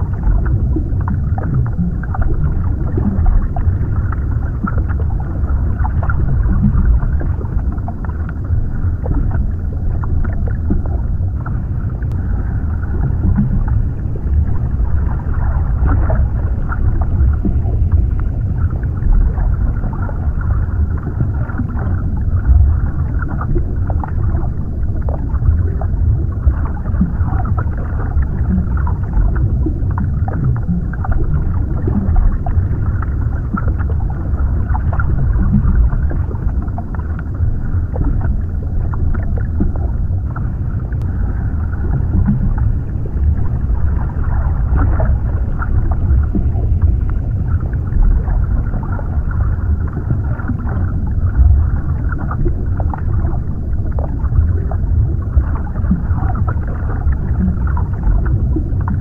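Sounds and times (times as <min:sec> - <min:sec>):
muffled underwater rumble: 0:00.0 - 0:59.0.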